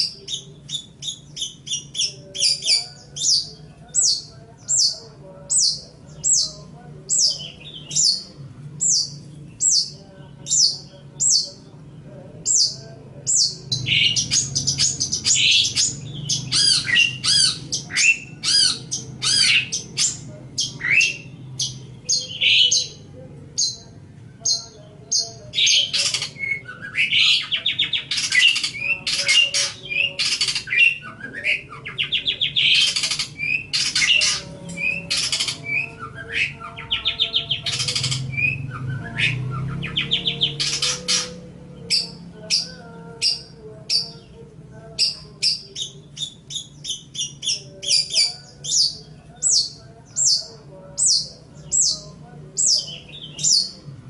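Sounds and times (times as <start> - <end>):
shrike singing: 0.0 - 54.0.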